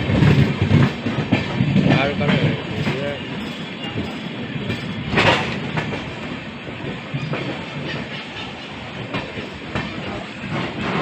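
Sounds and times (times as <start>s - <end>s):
train rumbling on track: 0.0s - 11.0s
wheels clicking over rail joints: 0.0s - 11.0s.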